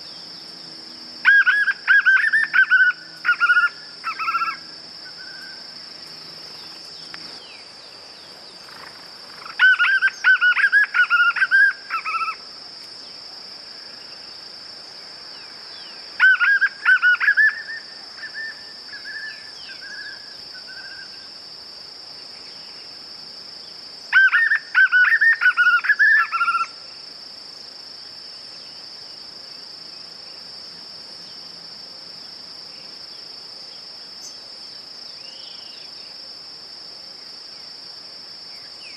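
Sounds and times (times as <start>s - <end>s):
high-pitched insect drone: 0.0s - 36.4s.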